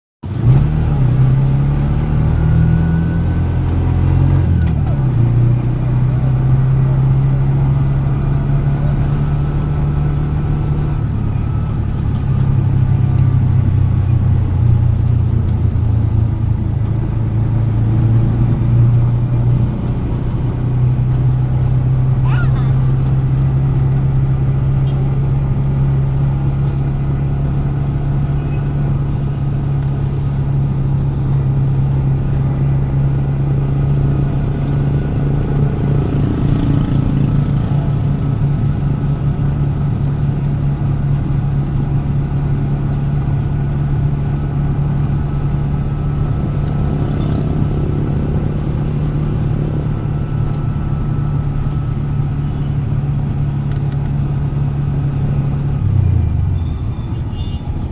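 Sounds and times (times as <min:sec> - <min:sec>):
road noise: 0:00.2 - 0:57.9
vehicle engine running: 0:00.2 - 0:57.9.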